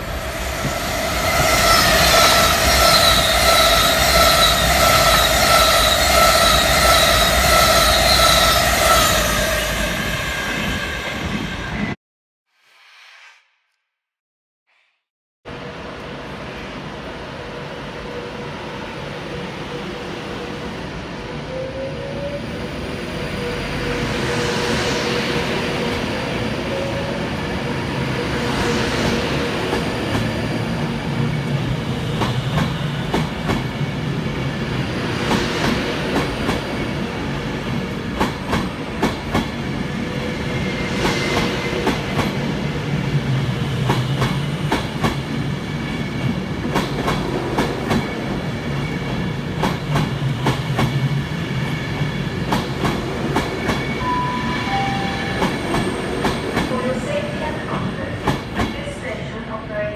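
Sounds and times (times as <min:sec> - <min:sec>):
train rumbling on rails: 0:00.0 - 0:12.0, 0:15.5 - 0:59.9.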